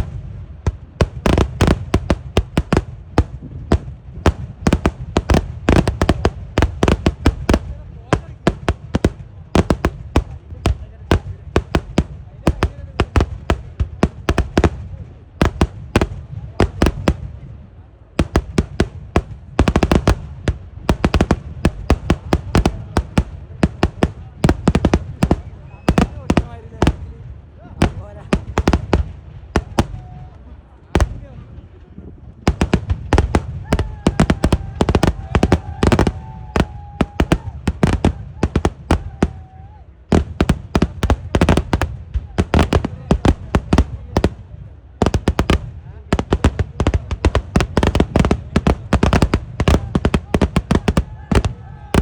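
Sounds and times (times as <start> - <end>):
fireworks exploding: 0.0 - 52.0.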